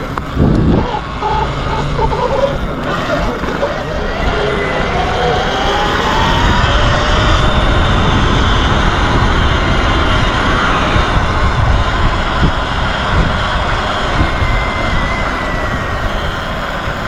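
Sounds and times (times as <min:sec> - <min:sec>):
electric dirt bike drone: 0:00.0 - 0:17.0
faint motor whine: 0:00.0 - 0:17.0
wind rushing over microphone: 0:00.0 - 0:17.0.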